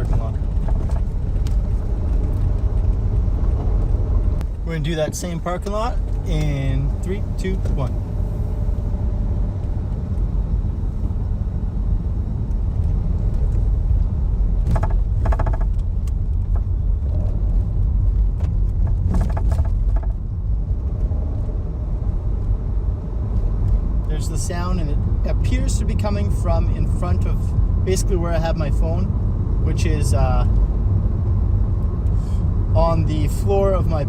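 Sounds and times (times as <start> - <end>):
car cabin road rumble: 0.0 - 34.0.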